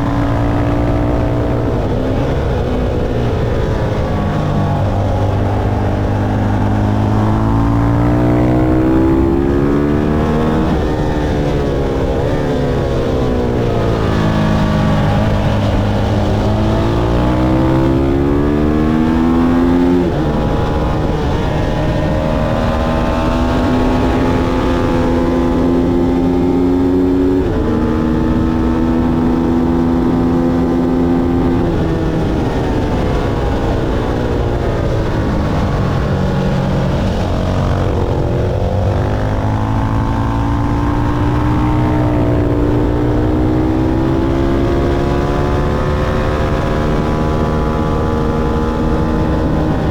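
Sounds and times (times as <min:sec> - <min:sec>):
constant rushing noise: 0:00.0 - 0:49.9
motorcycle engine racing: 0:00.0 - 0:49.9.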